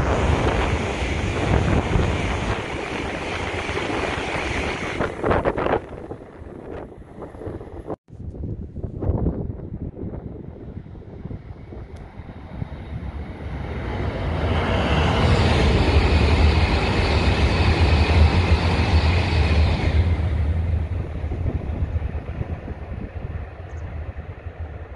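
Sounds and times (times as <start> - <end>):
high-speed train passing: 0.0 - 8.0, 9.0 - 24.9.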